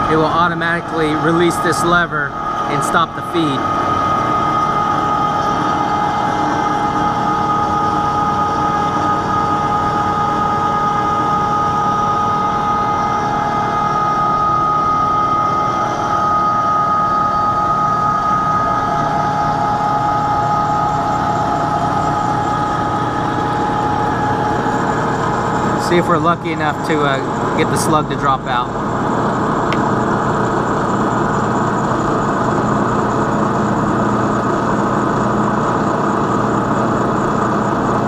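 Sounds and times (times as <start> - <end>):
milling machine whine: 0.0 - 38.0.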